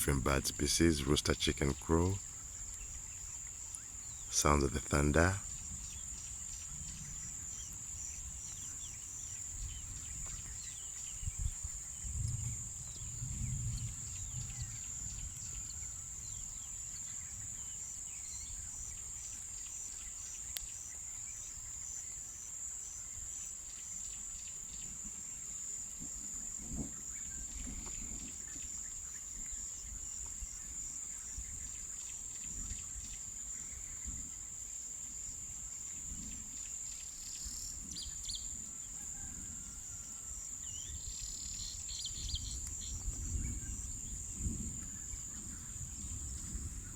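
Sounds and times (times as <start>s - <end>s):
crickets trilling: 0.0s - 46.9s.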